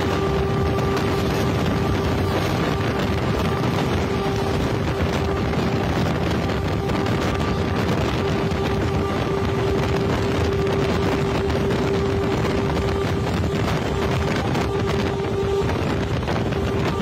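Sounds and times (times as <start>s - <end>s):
constant humming tone: 0.0s - 17.0s
rushing wind: 0.0s - 17.0s.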